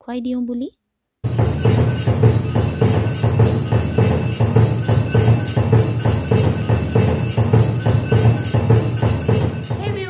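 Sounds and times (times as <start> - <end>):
bells and cymbals clashing: 1.2 - 10.0.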